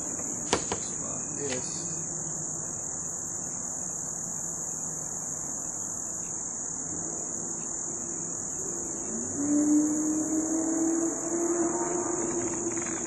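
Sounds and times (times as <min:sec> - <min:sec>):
crickets trilling: 0:00.0 - 0:13.0
faint low vehicle drone: 0:00.0 - 0:13.0.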